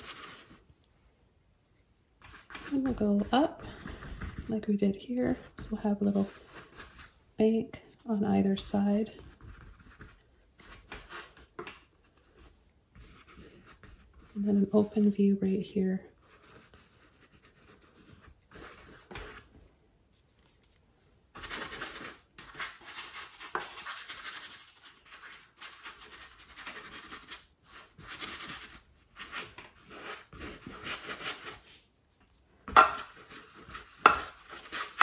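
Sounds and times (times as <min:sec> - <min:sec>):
paintbrush scrubbing canvas: 0:00.0 - 0:07.3, 0:07.9 - 0:15.1, 0:16.2 - 0:35.0.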